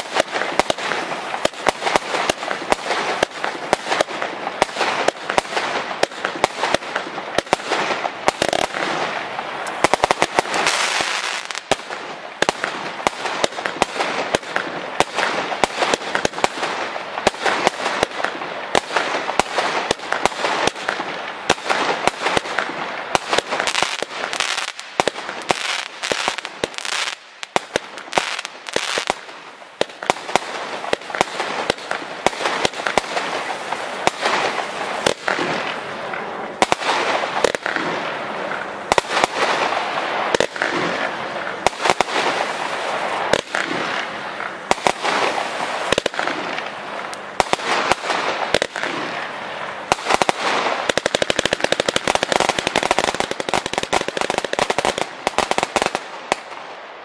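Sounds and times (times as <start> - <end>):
firework hiss: 0.0 - 56.5
firework launch and burst bangs: 0.0 - 56.7.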